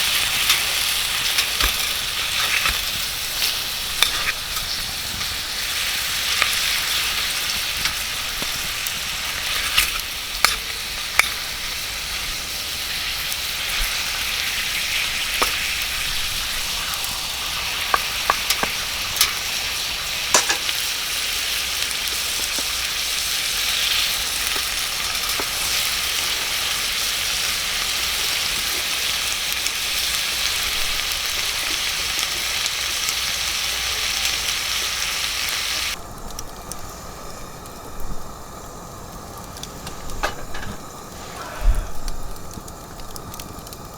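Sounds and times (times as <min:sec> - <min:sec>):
fire pops: 0:00.0 - 0:33.2, 0:35.9 - 0:43.9
campfire crackling: 0:00.0 - 0:43.9.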